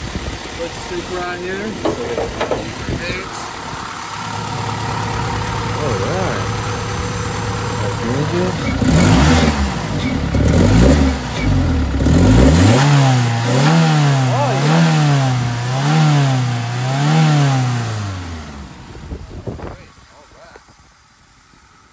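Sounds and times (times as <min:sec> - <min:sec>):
car engine revving: 0:00.1 - 0:19.2.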